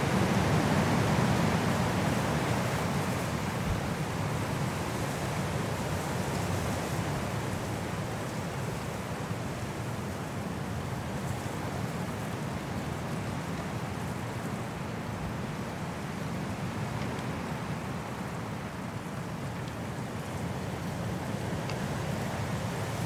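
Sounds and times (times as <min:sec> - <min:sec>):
high wind through trees: 0:00.0 - 0:23.0.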